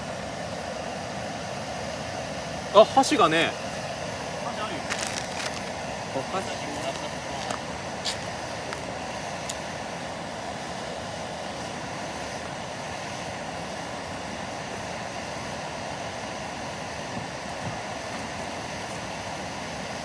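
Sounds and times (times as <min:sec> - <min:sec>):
gas stove burner hissing: 0:00.0 - 0:20.0.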